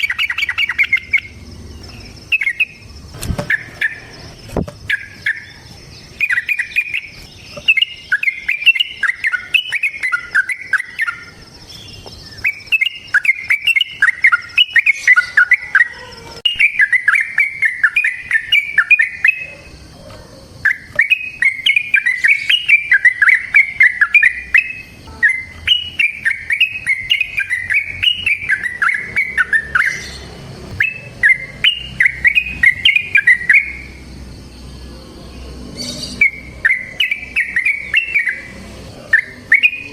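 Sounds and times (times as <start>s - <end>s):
bulbul singing bubbling song: 0.0s - 19.9s, 20.5s - 39.9s.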